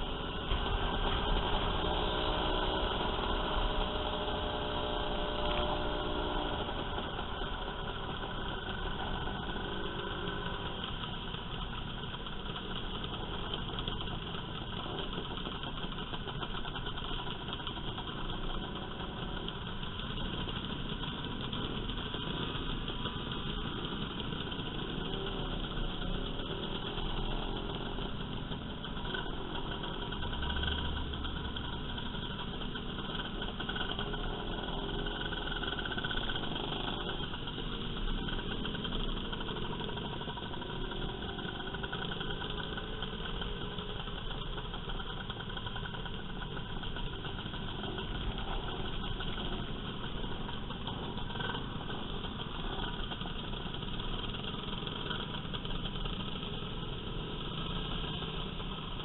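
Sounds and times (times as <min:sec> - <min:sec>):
motor scooter engines running: 0:00.0 - 0:59.0.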